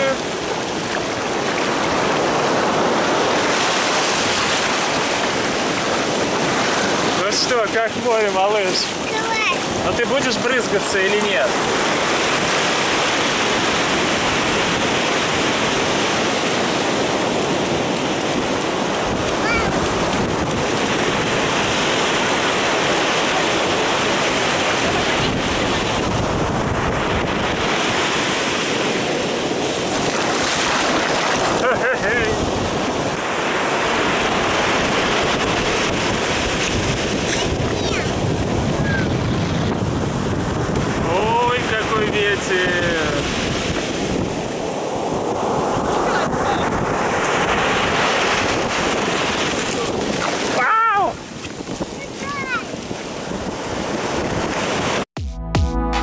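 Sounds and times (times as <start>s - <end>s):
surf breaking on sandy beach: 0.0s - 55.1s
wind noise on microphone: 0.0s - 55.1s.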